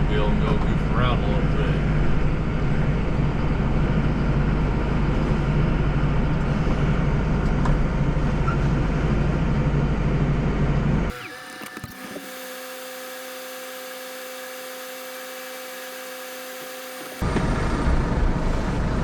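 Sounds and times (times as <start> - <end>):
tractor diesel engine humming: 0.0 - 19.0.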